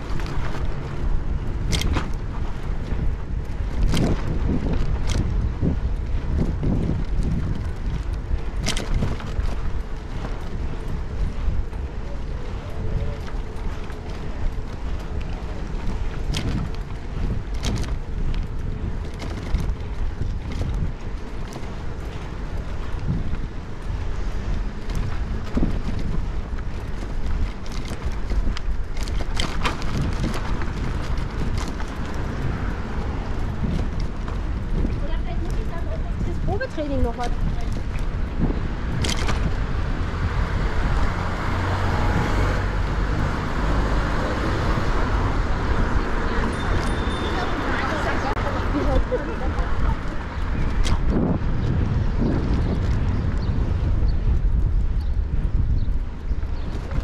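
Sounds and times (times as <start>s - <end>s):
road and street noise: 0.0s - 57.0s
wind buffeting microphone: 0.0s - 57.0s.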